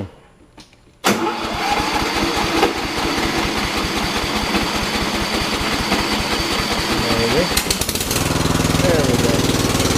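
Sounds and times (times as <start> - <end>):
mower engine running: 1.2 - 9.9.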